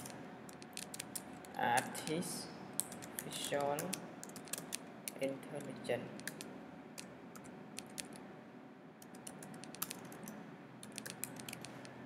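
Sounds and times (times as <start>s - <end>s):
computer keyboard typing: 0.0s - 2.2s, 2.8s - 5.3s, 6.2s - 8.2s, 9.0s - 12.0s.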